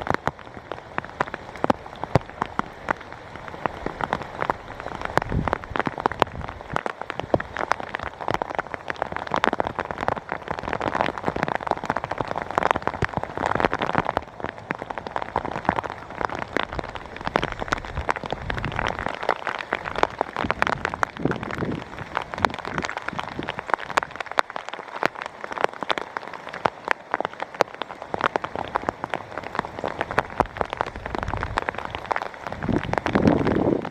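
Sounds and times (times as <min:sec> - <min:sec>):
close raindrop hits: 0:00.0 - 0:33.9
rain falling: 0:00.0 - 0:33.9.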